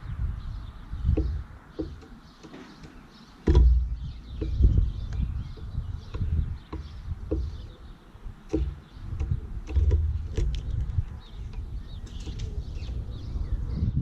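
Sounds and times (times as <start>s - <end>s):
light clicks and knocks: 1.1s - 13.0s.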